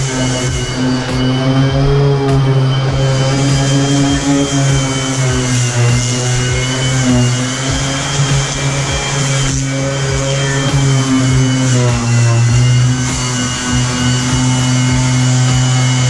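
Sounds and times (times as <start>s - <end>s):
orbital sander on bathtub: 0.0s - 16.0s.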